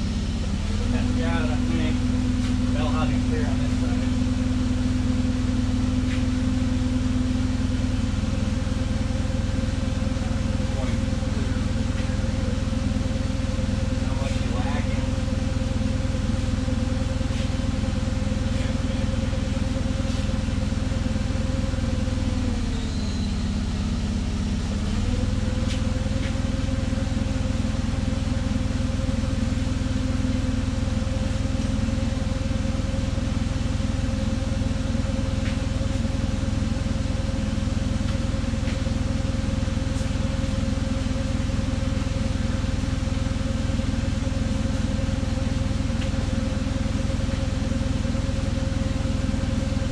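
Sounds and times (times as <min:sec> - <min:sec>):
forklift engine idling: 0:00.0 - 0:49.9.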